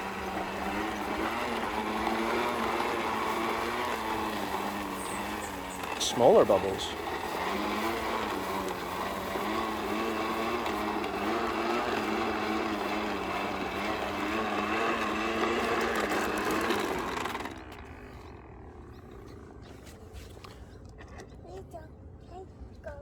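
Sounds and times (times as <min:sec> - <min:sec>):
toy motor whirring: 0:00.0 - 0:18.6.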